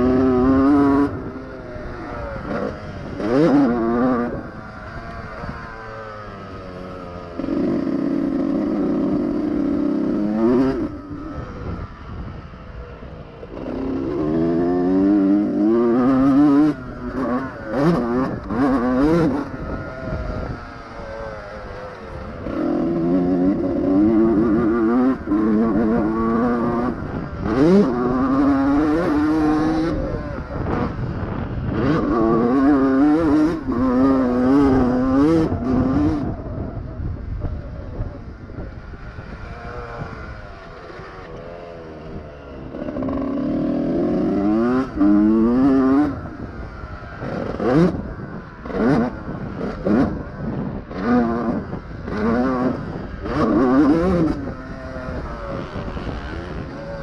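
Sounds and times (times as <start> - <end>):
motocross engine accelerating: 0.0 - 57.0.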